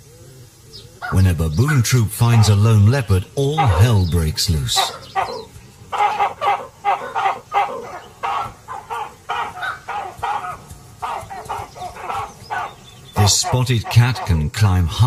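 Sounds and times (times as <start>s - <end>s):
baboons barking and screaming: 0.0s - 15.0s.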